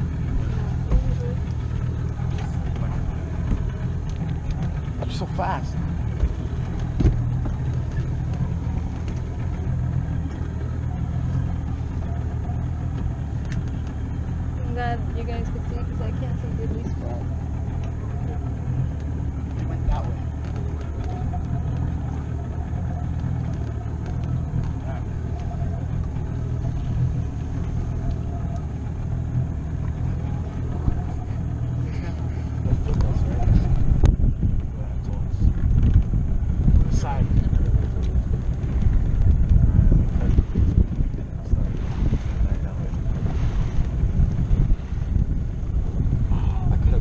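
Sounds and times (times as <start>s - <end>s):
outboard motor droning: 0.0s - 47.0s.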